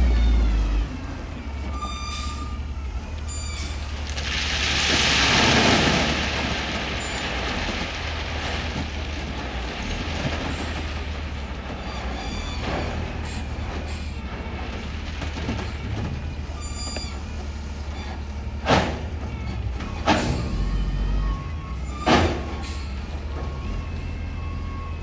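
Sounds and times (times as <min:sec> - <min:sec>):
heavy machinery rumbling: 0:00.0 - 0:25.0.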